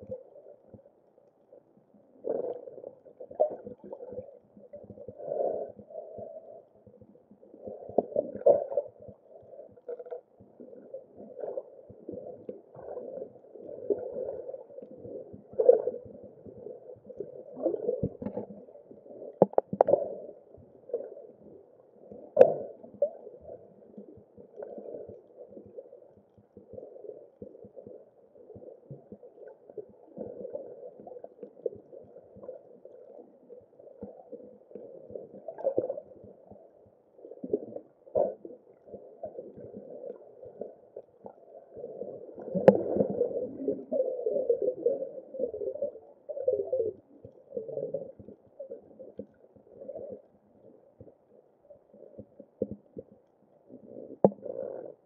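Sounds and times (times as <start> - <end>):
muffled underwater water wash: 0.0 - 55.0
underwater gurgles and knocks: 0.0 - 55.0.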